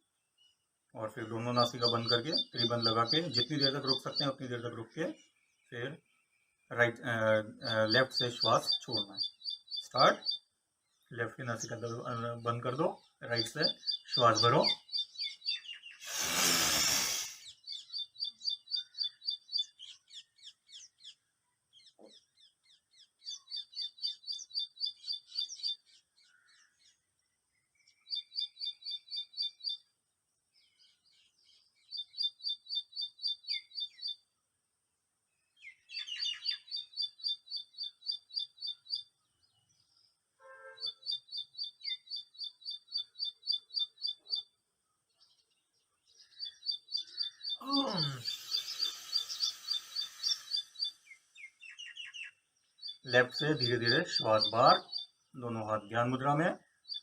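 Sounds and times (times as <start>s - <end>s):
bird chirping: 0.0s - 34.5s, 35.2s - 57.0s.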